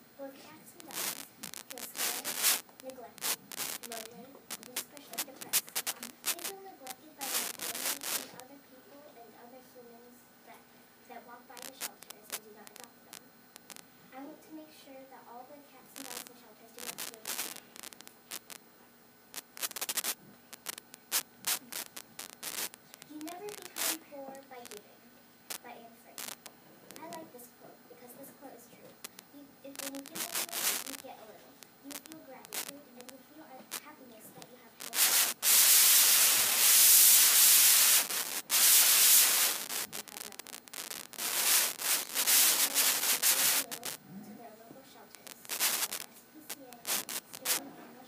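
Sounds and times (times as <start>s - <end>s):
scratchy crackling and rustling: 0.2s - 9.0s, 10.5s - 13.9s, 15.2s - 18.6s, 19.3s - 48.0s.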